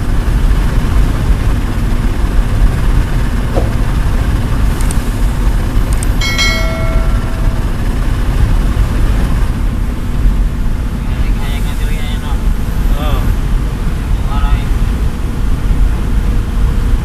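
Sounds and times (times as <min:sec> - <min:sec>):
heavy engine rumble: 0:00.0 - 0:17.0.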